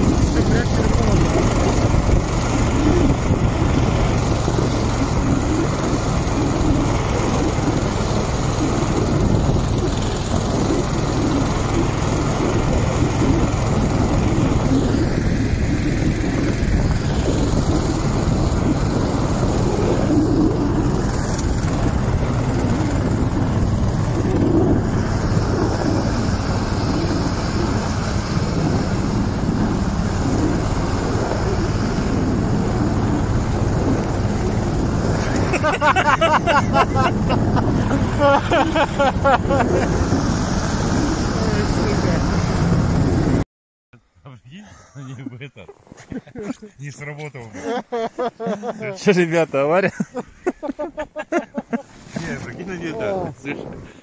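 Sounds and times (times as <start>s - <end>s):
small motor engine running: 0.0s - 43.4s.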